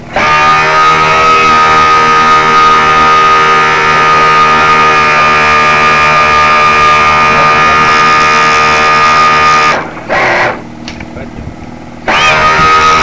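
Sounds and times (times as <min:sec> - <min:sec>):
model boat motor buzzing whine: 0:00.0 - 0:11.0, 0:11.6 - 0:13.0.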